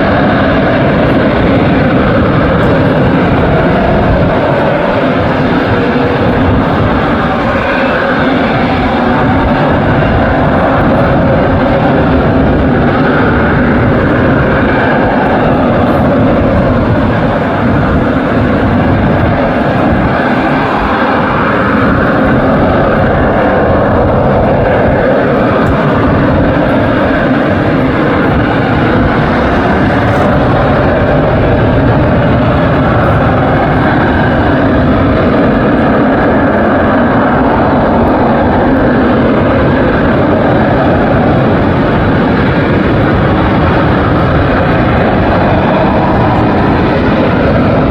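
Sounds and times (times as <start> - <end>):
jet engine roaring: 0.0 - 47.9.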